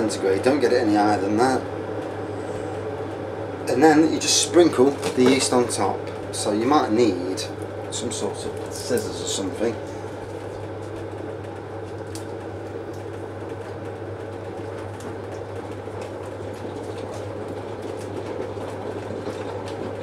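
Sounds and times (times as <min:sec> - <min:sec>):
appliance humming: 0:00.0 - 0:20.0.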